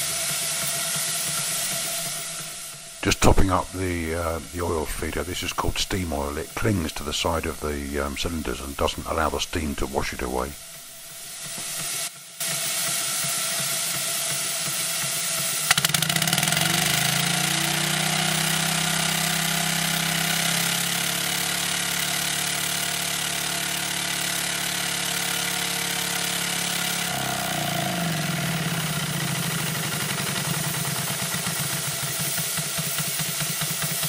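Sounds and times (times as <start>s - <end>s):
steam engine running: 0.0s - 34.0s
steam hissing: 0.0s - 34.0s.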